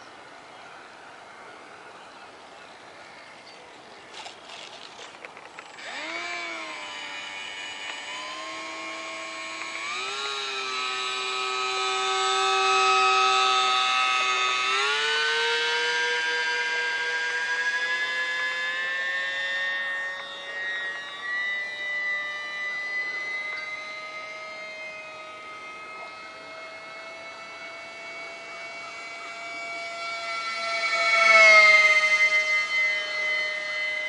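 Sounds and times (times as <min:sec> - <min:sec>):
small electric motor whining: 0:00.0 - 0:34.0.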